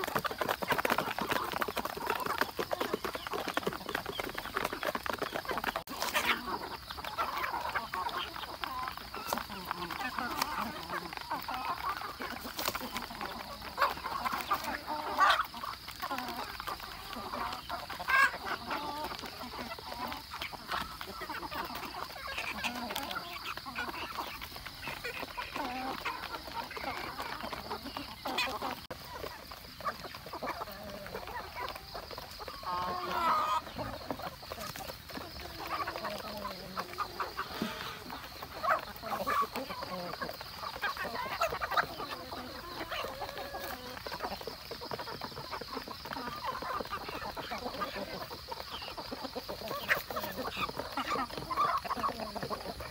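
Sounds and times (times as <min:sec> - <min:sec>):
chickens clucking: 0:00.0 - 0:52.9
louder chicken calls: 0:00.0 - 0:52.9.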